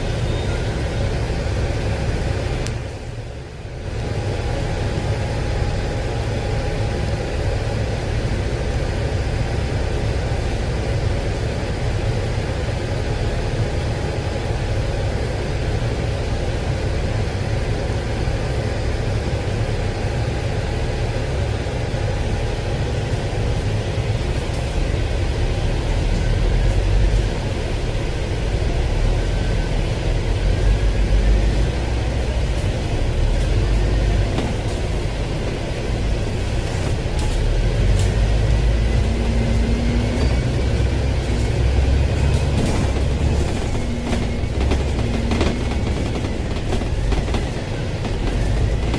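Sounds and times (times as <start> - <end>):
bus engine rumble: 0.0 - 48.9
road noise: 0.0 - 48.9.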